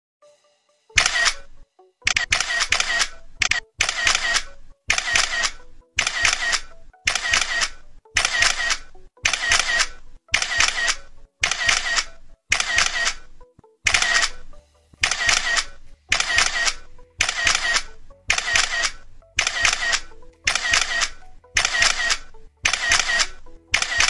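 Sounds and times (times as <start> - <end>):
camera shutter clicks: 1.0 - 1.5, 2.1 - 24.0.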